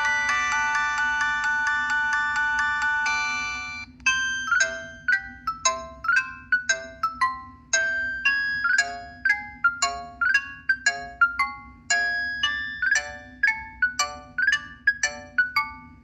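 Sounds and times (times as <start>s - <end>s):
electronic chord ringtone: 0.0s - 16.0s
marimba-like ringtone melody: 0.0s - 16.0s.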